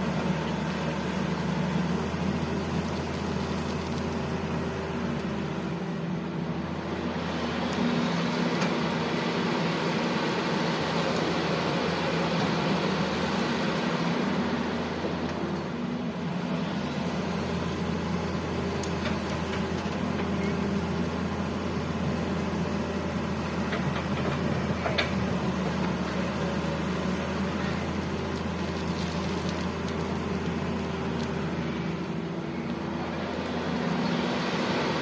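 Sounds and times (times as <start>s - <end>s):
heavy diesel engines humming: 0.0s - 35.0s.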